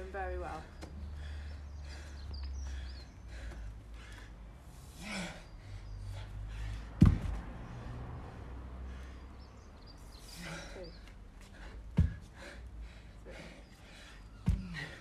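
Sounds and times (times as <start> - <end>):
man breathing heavily: 0.8 - 15.0.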